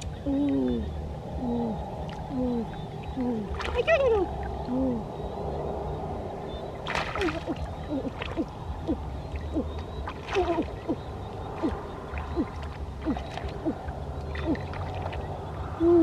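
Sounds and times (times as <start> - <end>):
low animal calls: 0.0 - 16.0
steady low rumble: 0.0 - 16.0.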